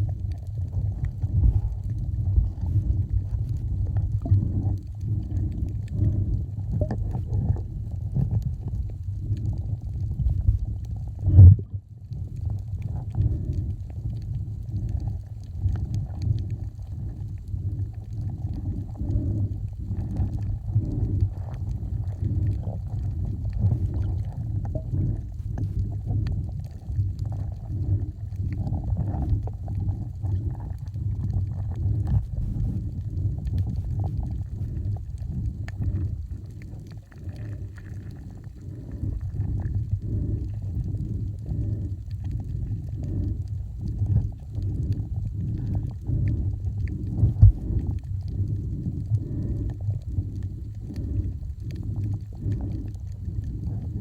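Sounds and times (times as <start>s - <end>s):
muffled underwater sloshing: 0.0s - 54.0s.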